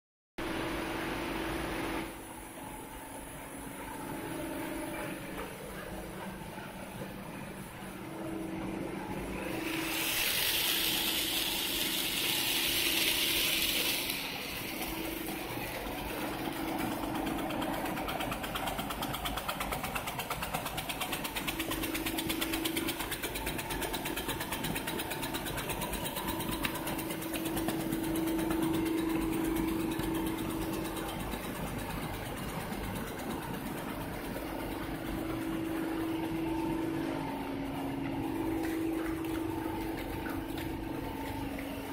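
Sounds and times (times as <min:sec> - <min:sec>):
machine hum with held tones: 0:00.4 - 0:41.9.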